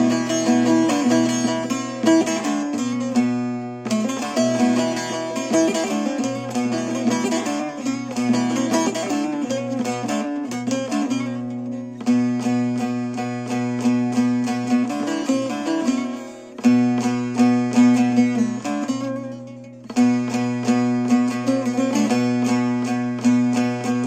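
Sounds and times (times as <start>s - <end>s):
plucked string instrument music: 0.0s - 24.0s.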